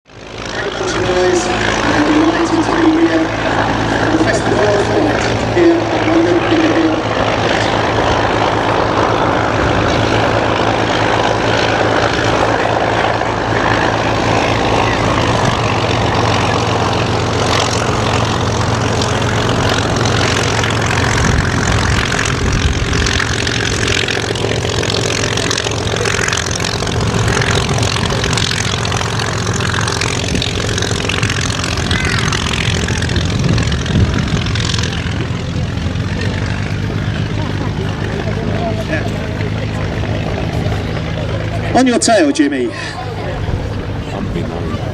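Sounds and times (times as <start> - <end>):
piston aircraft engine running: 0.0 - 44.9
propeller noise: 0.0 - 44.9.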